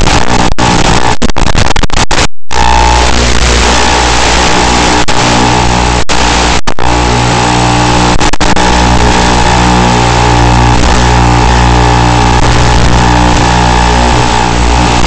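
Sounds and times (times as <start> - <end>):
electronic buzz and hiss: 0.0 - 15.0.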